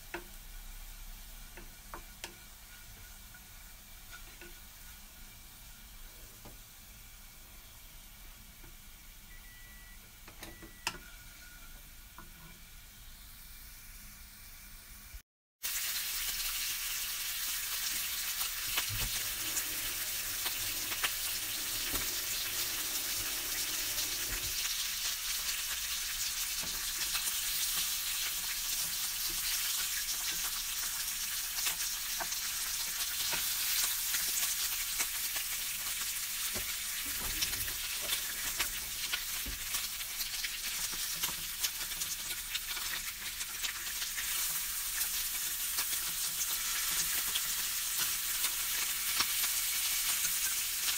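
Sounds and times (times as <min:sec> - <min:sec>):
bacon sizzling in a pan: 0:00.0 - 0:09.3, 0:11.0 - 0:50.9.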